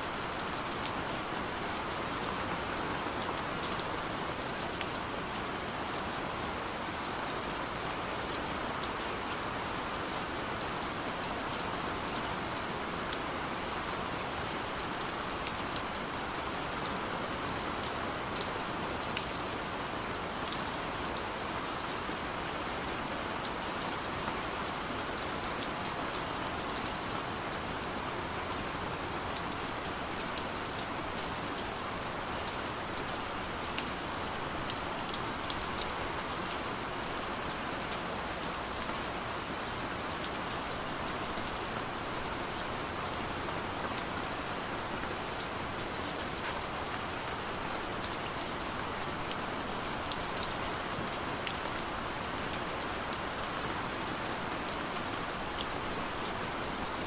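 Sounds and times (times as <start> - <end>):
gentle rain with ticking drops: 0.0 - 57.0.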